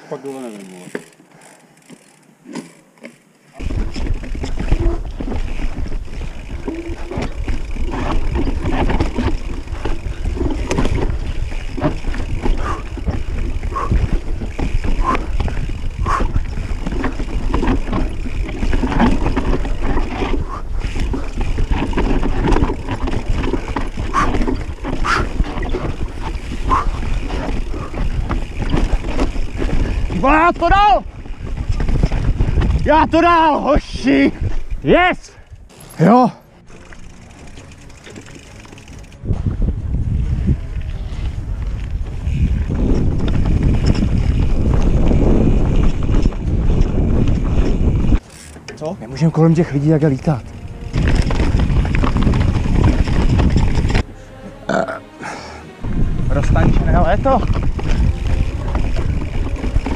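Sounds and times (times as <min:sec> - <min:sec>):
bike knocking and rattling: 0:00.3 - 0:34.8, 0:35.6 - 0:54.1, 0:55.9 - 0:59.9
wind buffeting microphone: 0:03.6 - 0:35.7, 0:39.0 - 0:48.2, 0:50.4 - 0:54.1, 0:55.8 - 0:59.9.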